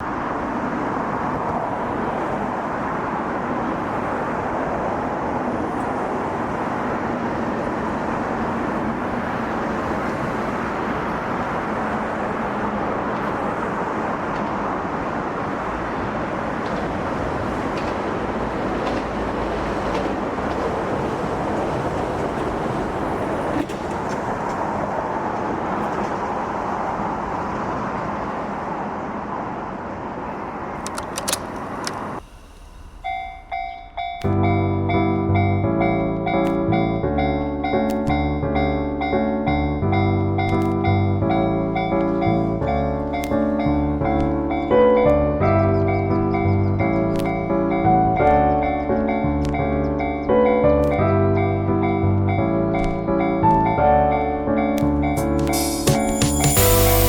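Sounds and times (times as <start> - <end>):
vehicle traffic rushing: 0.0 - 57.0.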